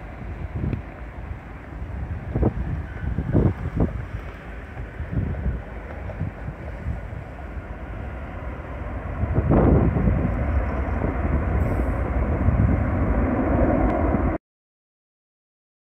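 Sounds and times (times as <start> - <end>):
jet engines rumbling: 0.0 - 14.4.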